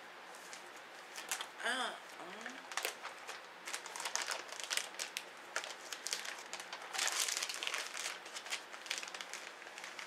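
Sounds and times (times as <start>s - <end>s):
plastic packaging crinkling: 0.4s - 1.6s, 2.4s - 10.0s.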